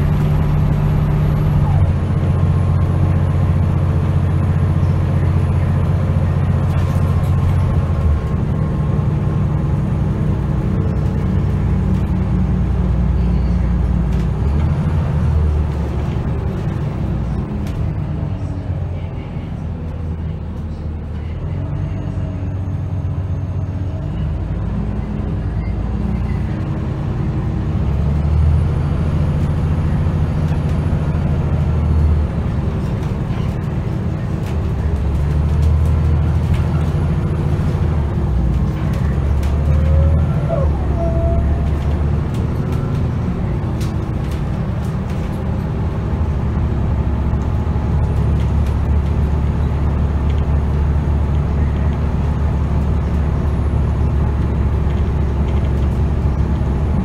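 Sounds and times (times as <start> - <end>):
bus diesel engine under way: 0.0 - 57.0.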